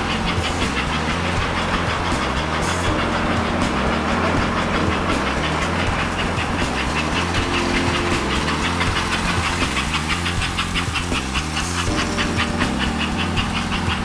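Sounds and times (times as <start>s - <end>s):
low hum: 0.0s - 14.0s
toy train rumbling on track: 0.0s - 14.0s.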